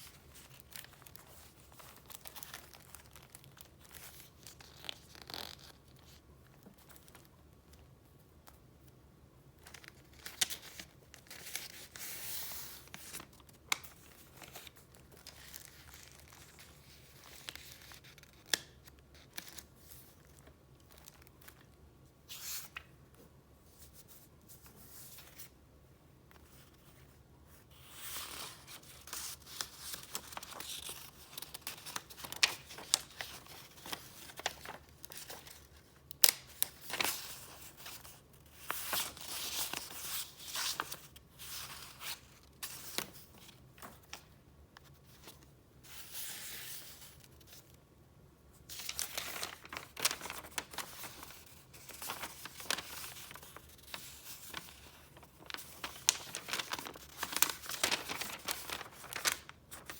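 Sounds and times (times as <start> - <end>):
paper rustling and crinkling: 0.0 - 9.0, 9.6 - 25.6, 26.3 - 47.8, 48.6 - 59.9.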